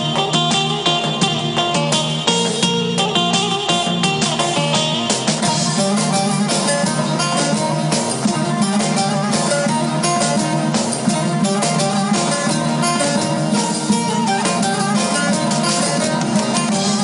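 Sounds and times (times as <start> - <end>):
keyboard: 0.0 - 17.0
plucked acoustic guitar: 0.0 - 17.0
saz: 0.0 - 17.0.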